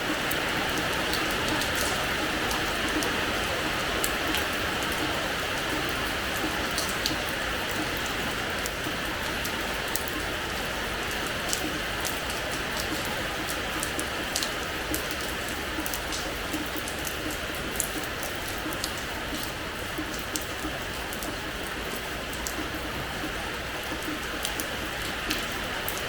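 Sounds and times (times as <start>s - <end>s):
rain falling on terrace floor: 0.0s - 26.0s.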